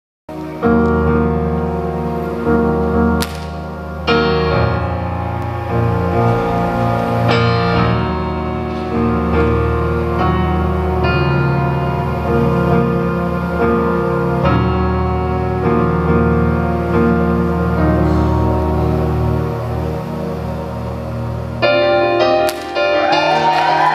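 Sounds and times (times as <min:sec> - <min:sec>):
keyboard chords: 0:00.3 - 0:23.9.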